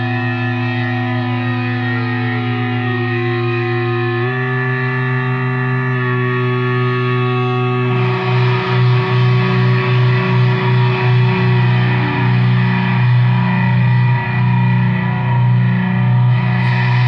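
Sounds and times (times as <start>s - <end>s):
distorted guitar droning: 0.0s - 17.0s.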